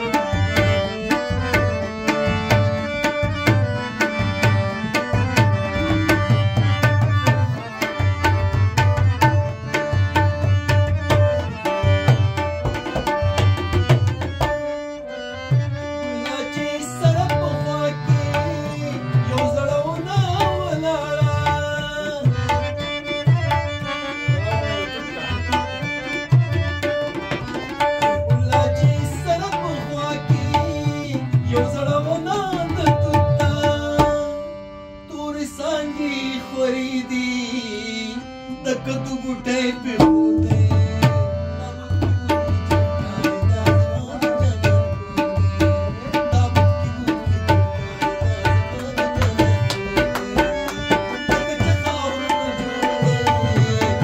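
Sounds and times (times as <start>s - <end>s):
harmonium chords and melody: 0.0s - 54.0s
tabla rhythm: 0.0s - 54.0s.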